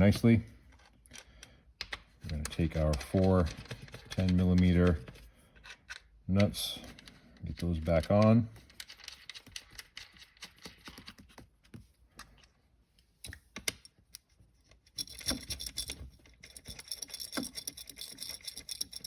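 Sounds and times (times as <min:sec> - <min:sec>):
metal parts clicking and tapping: 0:00.1 - 0:11.2, 0:14.8 - 0:19.0.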